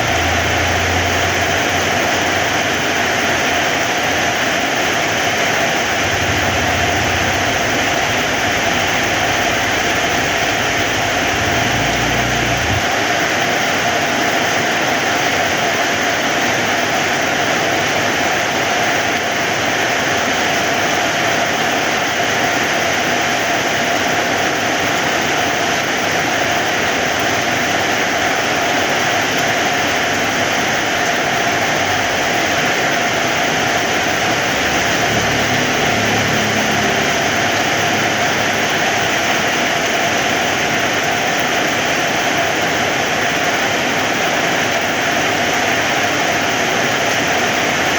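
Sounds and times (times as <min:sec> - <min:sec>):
heavy rain: 0:00.0 - 0:16.5, 0:25.2 - 0:47.9.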